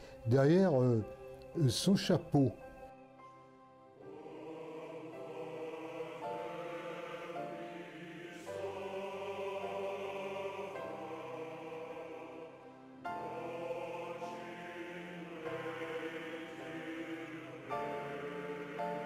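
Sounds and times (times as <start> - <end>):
choral chords: 0.0 - 19.0.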